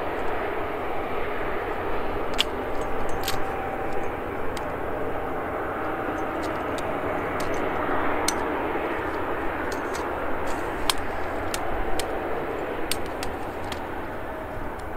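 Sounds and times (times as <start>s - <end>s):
jet engines running at low power: 0.0s - 14.9s.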